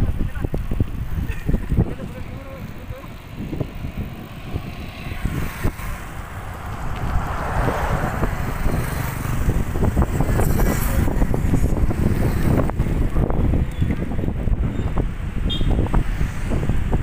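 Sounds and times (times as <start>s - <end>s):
wind buffeting microphone: 0.0s - 17.0s
motor vehicle passing: 0.6s - 17.0s.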